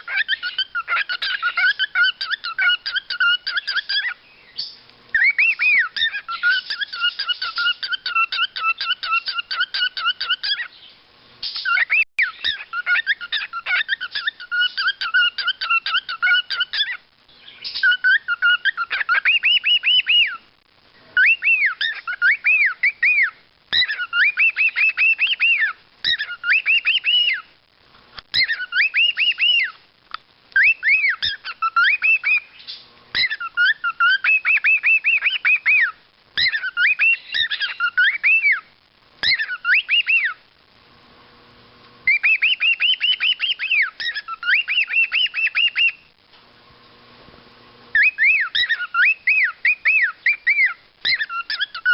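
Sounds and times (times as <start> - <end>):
cockatiels chirping whistles: 0.0 - 20.4, 21.2 - 27.5, 28.3 - 29.8, 30.6 - 40.4, 42.0 - 46.1, 47.9 - 51.9.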